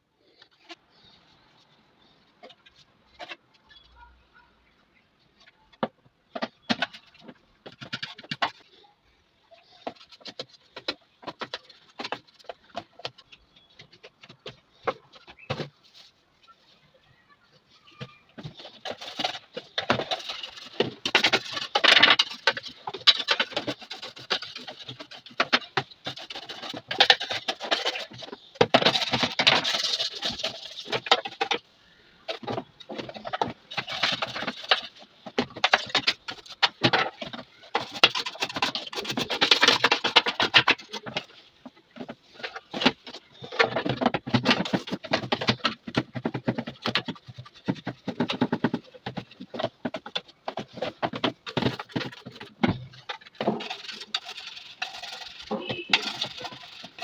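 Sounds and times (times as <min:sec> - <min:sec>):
small hard parts rattling: 0:00.2 - 0:57.0.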